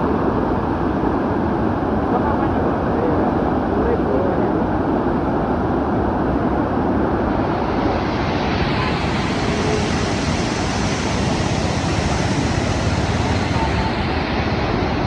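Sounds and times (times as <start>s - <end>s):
floodwater rushing through gorge: 0.0s - 5.4s, 6.2s - 15.0s.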